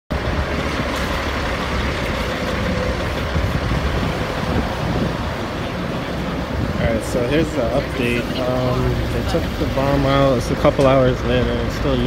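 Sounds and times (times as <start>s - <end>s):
fire engine diesel rumble: 0.1s - 12.0s.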